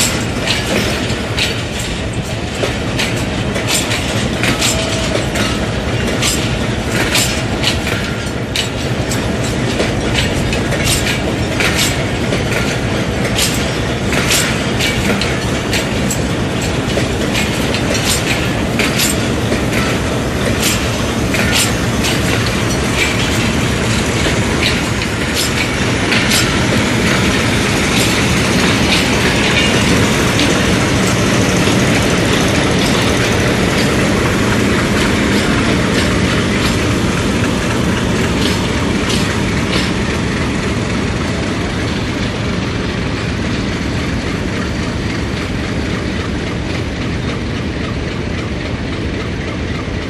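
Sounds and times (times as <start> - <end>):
train running past: 0.0 - 50.0
wheels clicking on rail joints: 0.0 - 50.0.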